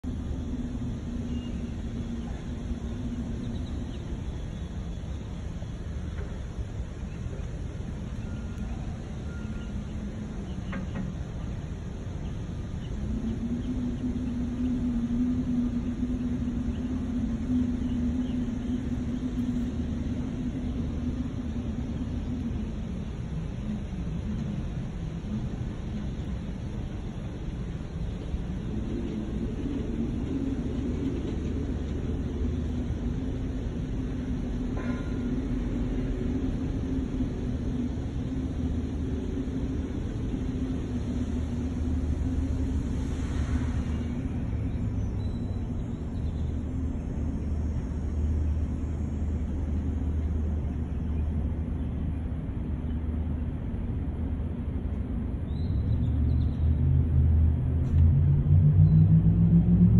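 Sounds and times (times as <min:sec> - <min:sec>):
motor rumbling and humming: 0:00.0 - 0:59.9.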